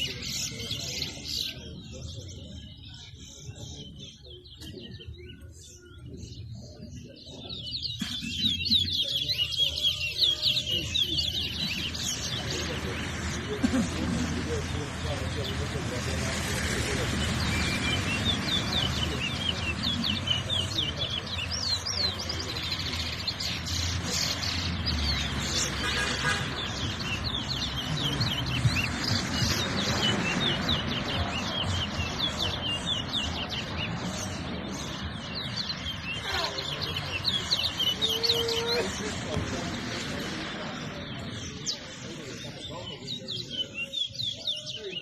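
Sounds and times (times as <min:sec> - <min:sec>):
finches chirping and trilling: 0:00.0 - 0:13.6, 0:14.3 - 0:45.0.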